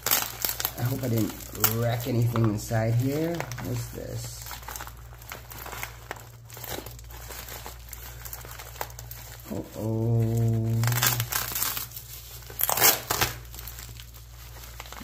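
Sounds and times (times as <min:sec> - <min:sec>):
low steady hum: 0:00.0 - 0:15.0
package wrapping crinkling: 0:00.0 - 0:15.0
wrapping tearing: 0:00.0 - 0:15.0.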